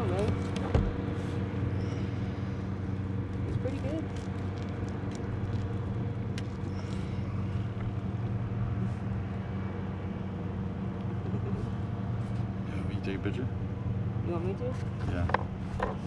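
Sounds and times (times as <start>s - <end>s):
low motor drone: 0.0s - 16.0s.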